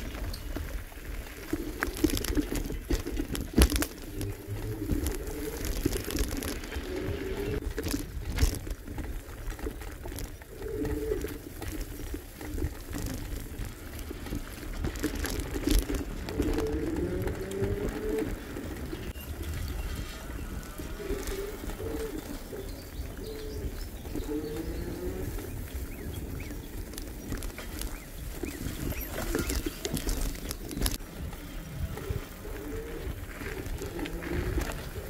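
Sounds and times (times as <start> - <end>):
low cooing bird calls: 0.0 - 8.6, 9.4 - 35.0.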